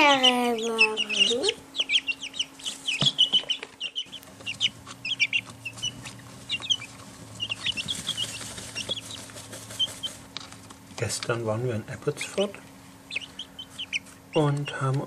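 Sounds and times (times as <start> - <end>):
chicks peeping: 0.0 - 15.0
steady low hum: 0.0 - 15.0.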